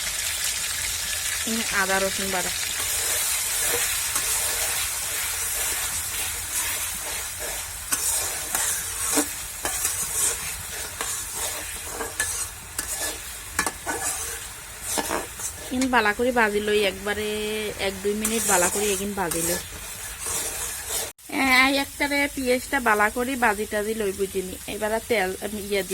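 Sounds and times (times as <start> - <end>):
food sizzling in hot oil: 0.0 - 25.9.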